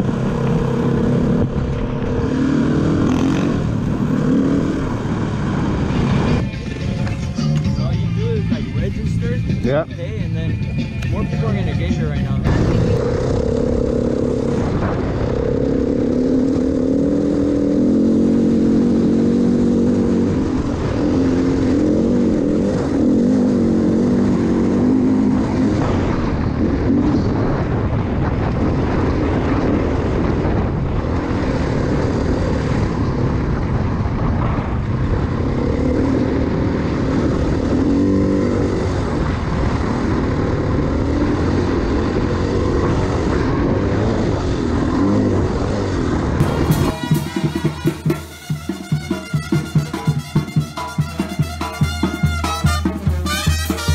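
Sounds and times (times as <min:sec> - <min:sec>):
wind rumble on microphone: 0:00.0 - 0:47.0
motorcycle engine revving: 0:00.0 - 0:53.9.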